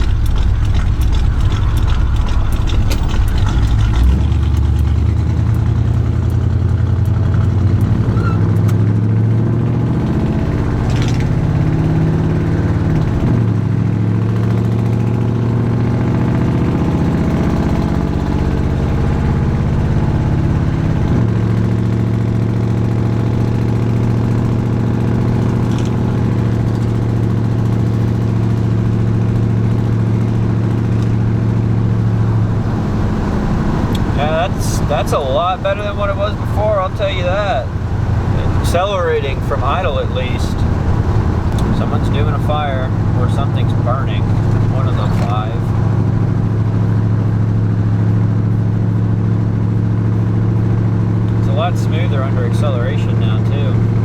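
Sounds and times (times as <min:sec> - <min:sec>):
truck engine accelerating: 0:00.0 - 0:54.0.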